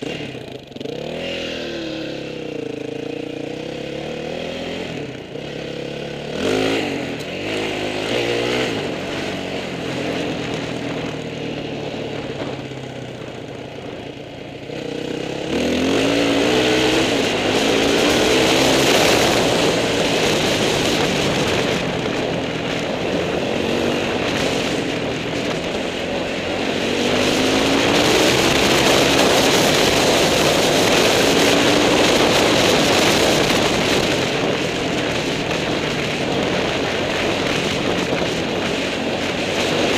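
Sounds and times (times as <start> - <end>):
motorcycle engine accelerating: 0.0 - 39.9
wind and road rushing noise: 0.0 - 39.9.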